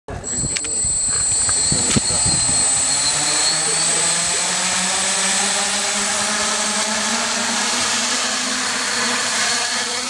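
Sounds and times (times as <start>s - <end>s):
drone propellers whirring: 0.1s - 10.0s.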